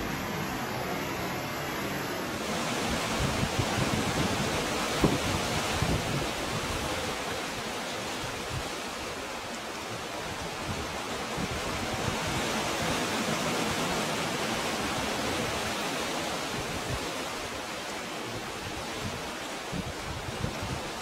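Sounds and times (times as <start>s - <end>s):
sea water rushing in rocky inlet: 0.0s - 21.0s.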